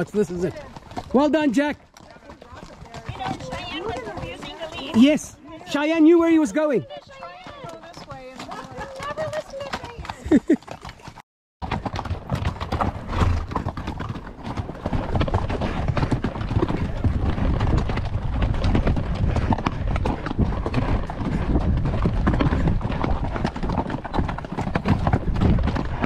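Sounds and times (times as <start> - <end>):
hooves clip-clopping on rock: 0.0 - 26.0.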